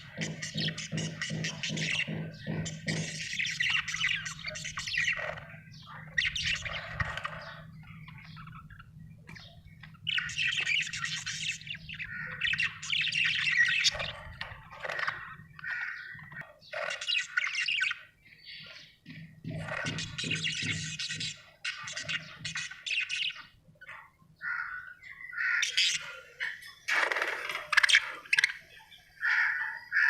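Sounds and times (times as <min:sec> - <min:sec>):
budgerigar chattering and chirping: 0:00.0 - 0:30.0.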